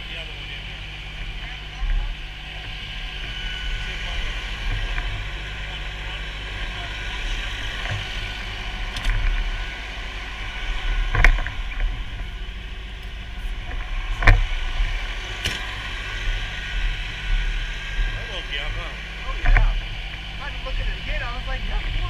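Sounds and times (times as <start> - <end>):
fire engine running: 0.0 - 22.0.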